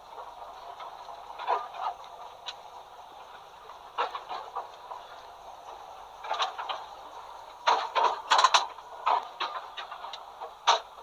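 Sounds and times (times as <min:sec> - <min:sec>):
tram clacking and rattling: 0:00.0 - 0:11.0.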